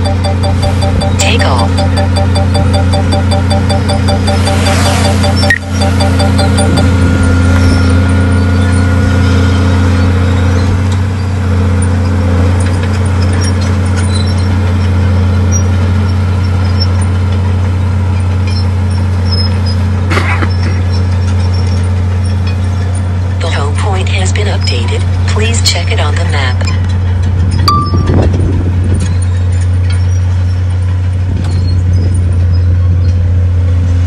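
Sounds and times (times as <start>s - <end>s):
diesel engine droning under load: 0.0s - 34.0s.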